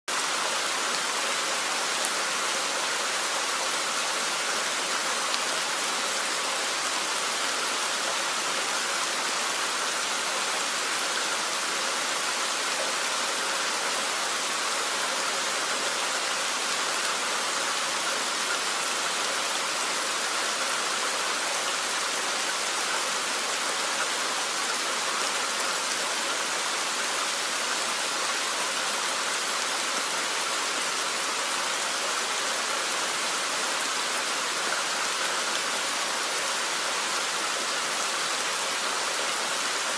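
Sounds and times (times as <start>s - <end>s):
steady rain hiss: 0.1s - 39.9s.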